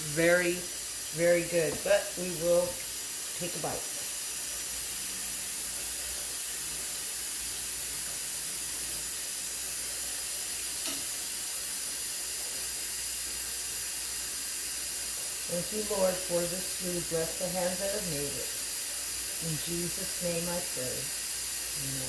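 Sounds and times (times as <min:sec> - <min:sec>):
steady thin hiss: 0:00.0 - 0:22.0.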